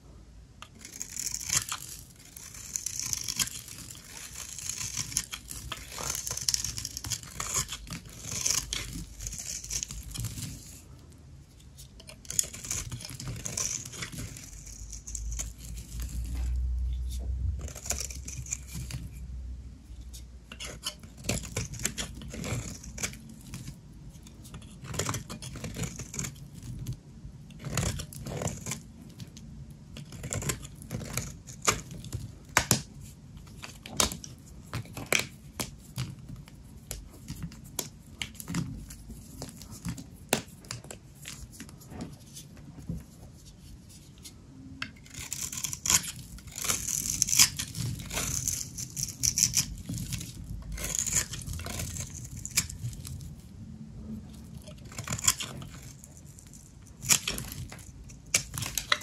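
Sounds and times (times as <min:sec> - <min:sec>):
knife cutting soap: 0:00.6 - 0:19.2, 0:20.0 - 0:53.4, 0:54.4 - 0:59.0.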